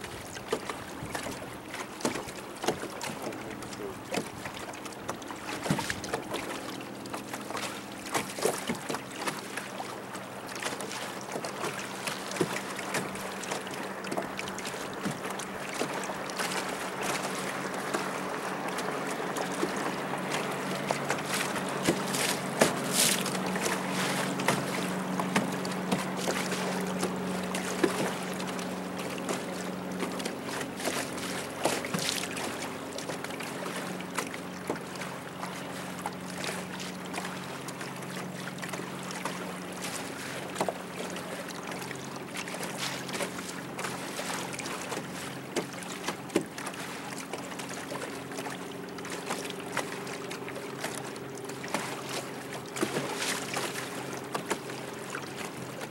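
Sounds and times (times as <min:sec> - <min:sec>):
boat motor humming: 0:00.0 - 0:55.9
water splashing against hull: 0:00.0 - 0:55.9.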